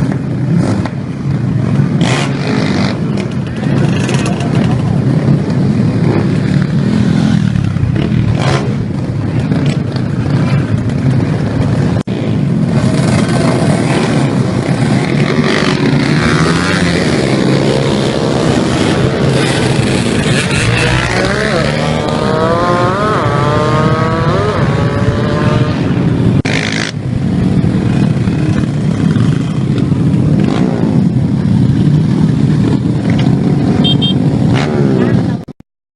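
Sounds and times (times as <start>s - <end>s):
motorcycle engines revving: 0.0s - 35.5s.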